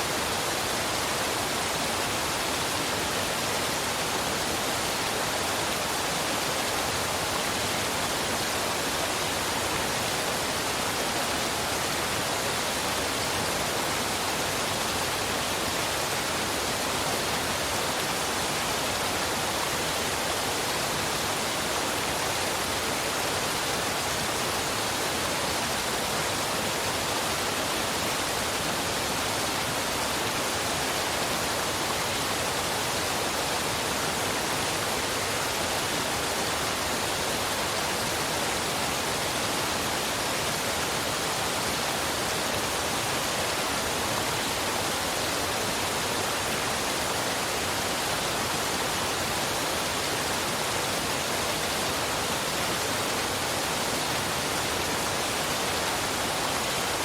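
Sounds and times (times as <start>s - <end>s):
waterfall and river rushing: 0.0s - 57.0s.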